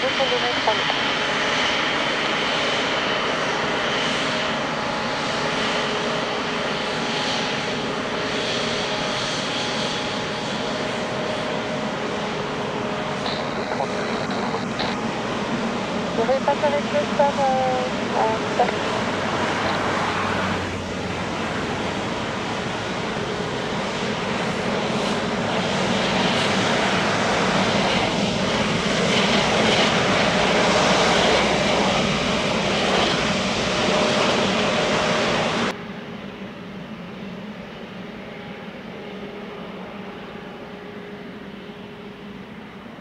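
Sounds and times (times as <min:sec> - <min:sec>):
distant engine hum: 0:00.0 - 0:43.0
jet engine whine and rush: 0:00.0 - 0:43.0.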